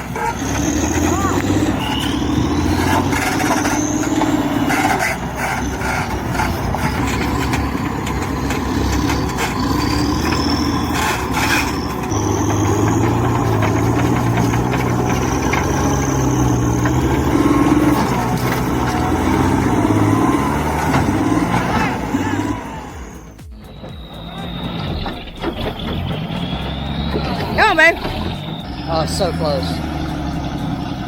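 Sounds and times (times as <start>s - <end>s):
diesel engines under load: 0.0s - 31.0s.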